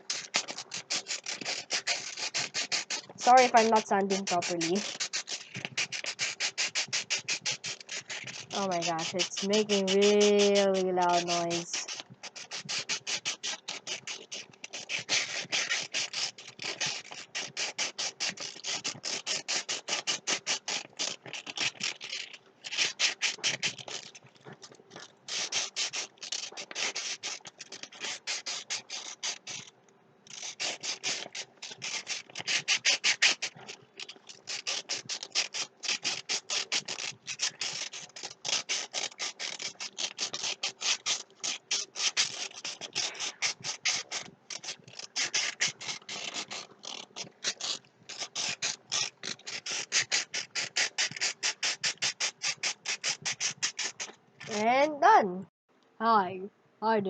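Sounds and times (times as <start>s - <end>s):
sandpaper rubbing together: 0.0s - 29.7s, 30.3s - 54.8s.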